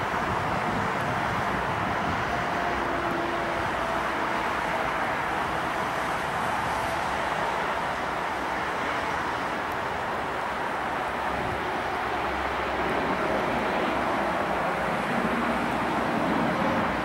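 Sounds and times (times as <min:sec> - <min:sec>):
distant engines roaring: 0:00.0 - 0:17.0.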